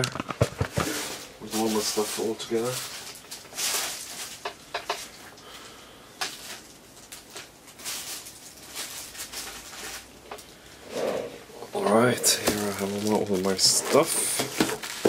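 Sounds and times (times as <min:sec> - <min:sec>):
rustling: 0:00.0 - 0:05.2, 0:06.3 - 0:10.2, 0:10.9 - 0:15.0.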